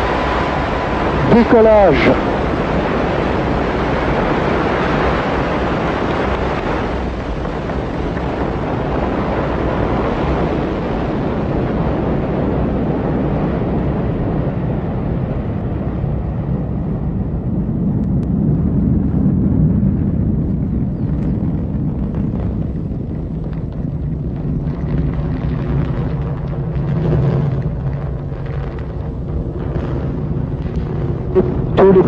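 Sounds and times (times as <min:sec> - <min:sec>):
rocket engine rumble: 0:00.0 - 0:32.0.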